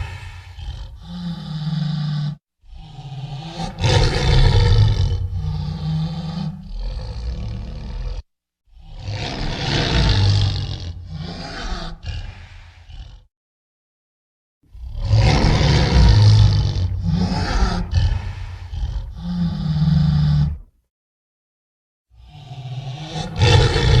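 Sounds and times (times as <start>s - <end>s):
big cat roaring: 0.0s - 13.3s, 14.7s - 20.7s, 22.2s - 24.0s.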